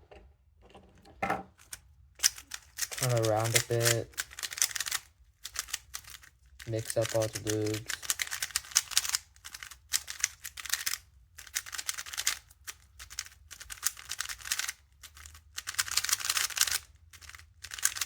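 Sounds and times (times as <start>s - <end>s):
plastic puzzle cube clicking: 1.6s - 18.0s.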